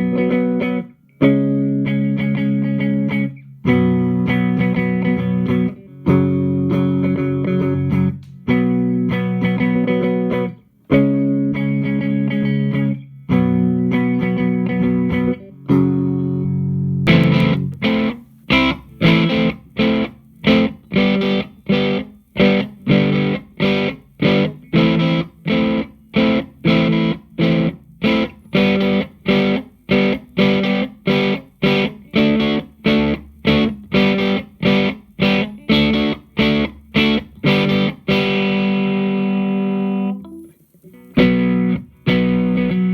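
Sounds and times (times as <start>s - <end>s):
electric guitar chords: 0.0s - 42.9s.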